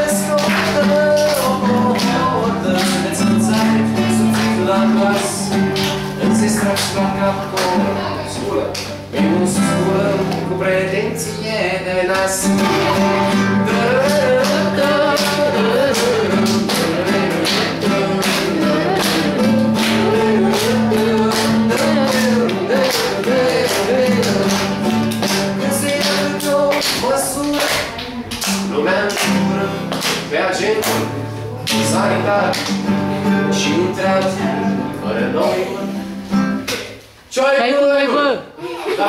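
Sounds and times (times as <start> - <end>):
man singing: 0.0 - 36.4
strummed classical guitar: 0.0 - 37.0.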